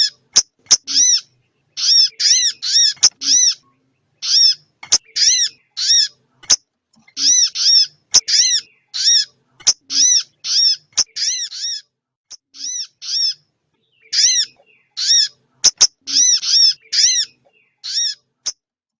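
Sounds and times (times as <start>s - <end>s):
songbird call: 0.0s - 6.4s, 7.0s - 18.6s.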